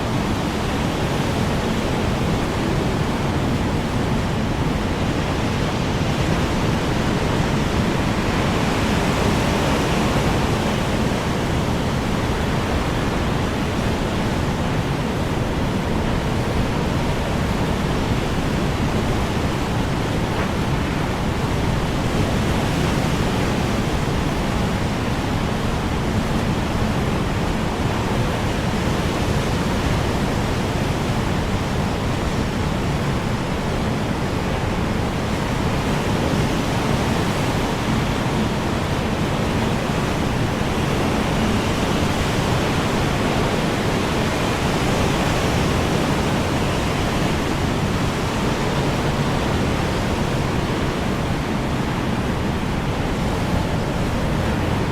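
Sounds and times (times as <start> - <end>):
strong wind blowing: 0.0 - 54.9.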